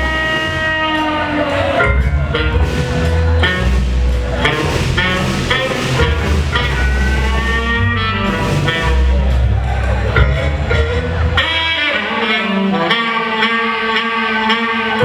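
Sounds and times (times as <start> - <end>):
band playing music: 0.0 - 15.0
guitar: 0.0 - 15.0
strong bass line: 0.0 - 15.0.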